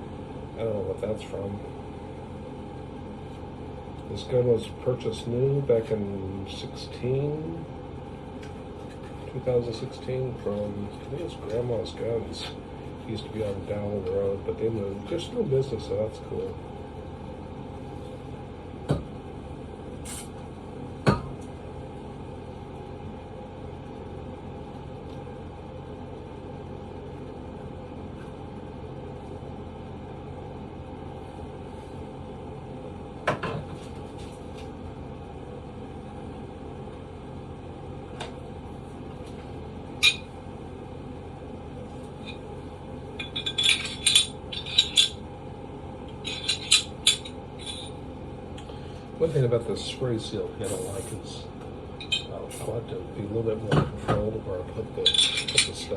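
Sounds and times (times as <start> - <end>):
steady background hum: 0.0 - 55.9.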